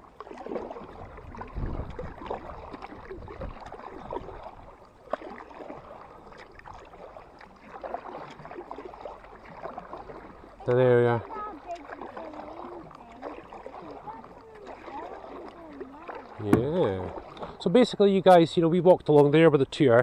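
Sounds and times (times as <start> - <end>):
paddle splashing in water: 0.0 - 19.4.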